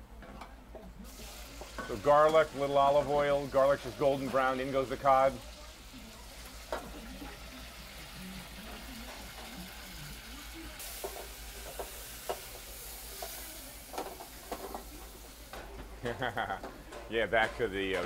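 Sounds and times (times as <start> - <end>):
fish sizzling in oil: 1.0 - 16.6.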